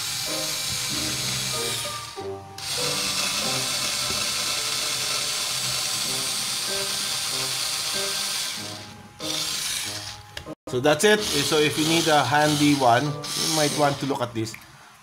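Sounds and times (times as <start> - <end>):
cordless screwdriver drilling wood: 0.0 - 10.2, 11.2 - 14.1
background music: 0.0 - 14.5.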